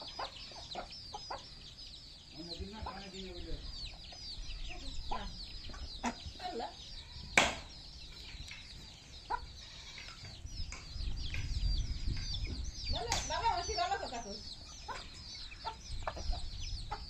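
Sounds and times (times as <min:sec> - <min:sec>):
hen clucking: 0:00.0 - 0:01.8, 0:02.5 - 0:07.4, 0:08.8 - 0:11.1, 0:12.2 - 0:17.0
chicks peeping: 0:00.0 - 0:17.0.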